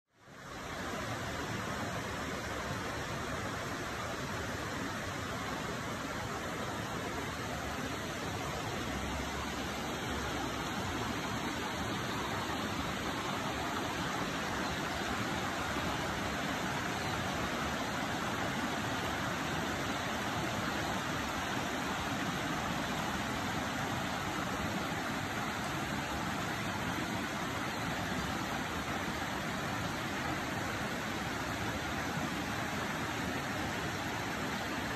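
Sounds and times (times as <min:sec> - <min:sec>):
creek water rushing over rocks: 0:00.2 - 0:34.9.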